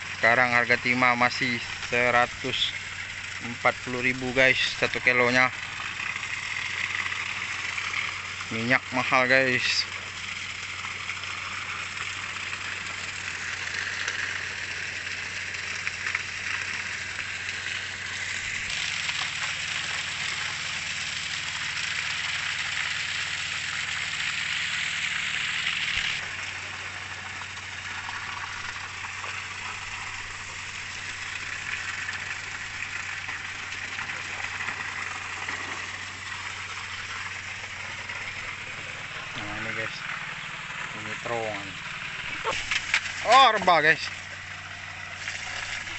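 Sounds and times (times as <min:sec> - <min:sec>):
pump engine humming: 0:00.0 - 0:45.9
slurry gushing and splashing: 0:00.0 - 0:45.9.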